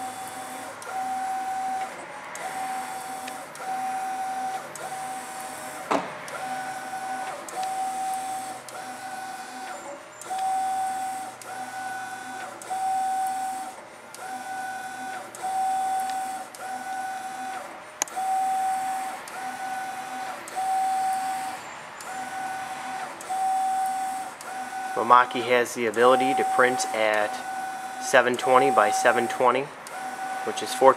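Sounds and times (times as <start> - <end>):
printer carriage motor whine: 0.0 - 30.9.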